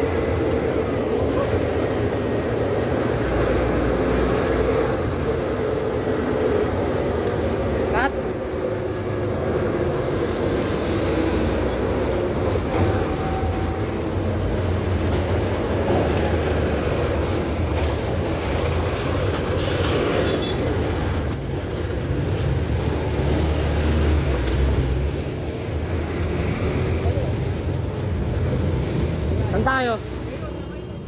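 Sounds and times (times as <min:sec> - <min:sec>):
passing vehicles rumbling: 0:00.0 - 0:31.0.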